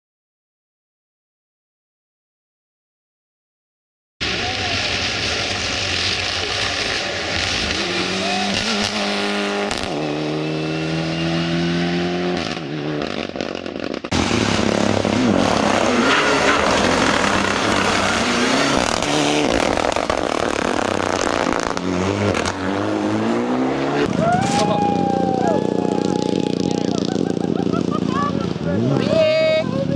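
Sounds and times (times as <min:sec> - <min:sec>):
rally car passing close: 0:04.2 - 0:29.3
rally car engine accelerating: 0:04.2 - 0:29.9.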